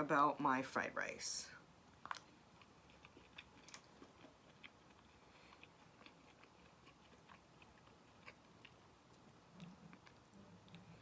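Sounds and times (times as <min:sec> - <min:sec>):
faint chewing with mouth clicks: 0:01.9 - 0:11.0.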